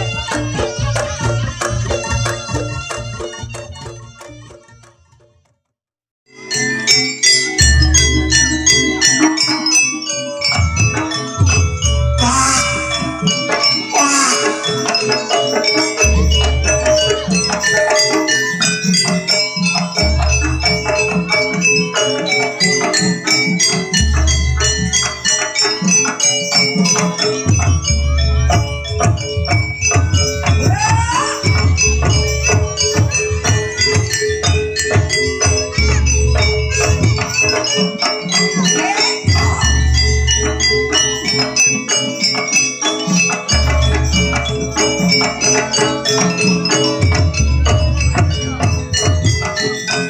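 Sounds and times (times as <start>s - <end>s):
gamelan mallet percussion: 0.0s - 5.4s, 6.3s - 50.0s.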